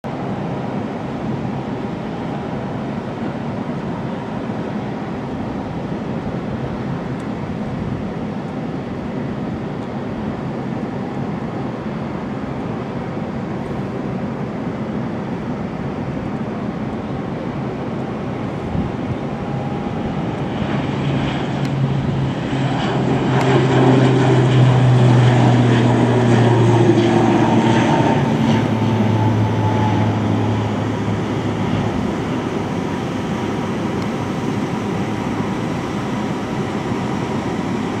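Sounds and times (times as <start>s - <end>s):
propeller aircraft taking off: 0.1s - 38.0s.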